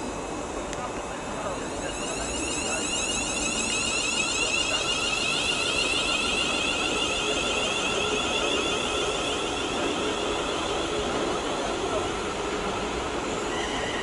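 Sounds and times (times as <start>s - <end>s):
electric train whining hum: 0.0s - 14.0s.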